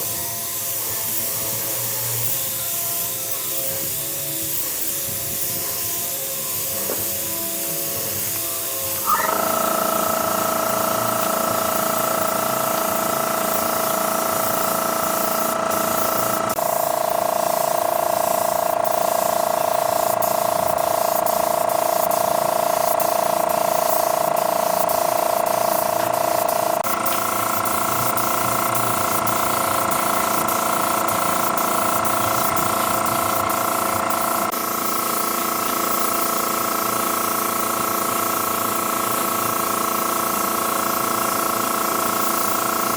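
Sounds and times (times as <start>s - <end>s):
machine whine: 0.5s - 22.2s, 22.8s - 40.8s.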